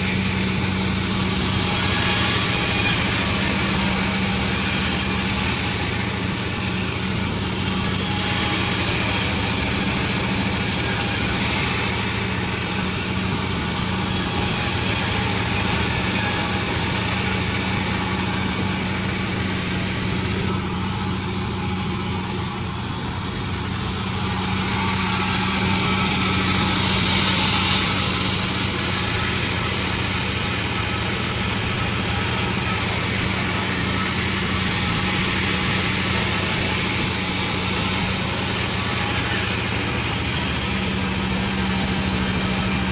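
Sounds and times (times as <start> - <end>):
sawmill machinery droning: 0.0 - 42.9.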